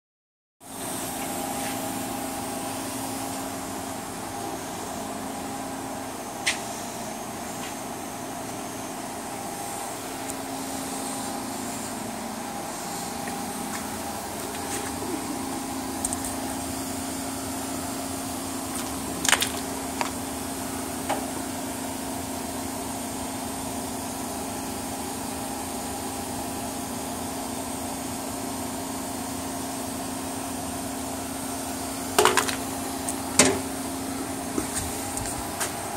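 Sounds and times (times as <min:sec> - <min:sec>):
workshop machinery humming: 0:00.6 - 0:35.9.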